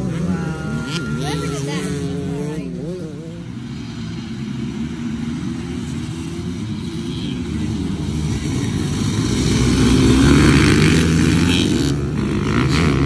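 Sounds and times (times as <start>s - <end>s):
dirt bike engines at full throttle: 0.0s - 13.0s.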